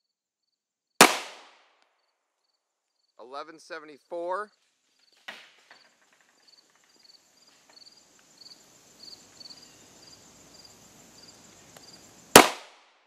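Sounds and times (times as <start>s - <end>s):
insect chirping: 0.0s - 0.7s, 2.0s - 12.4s.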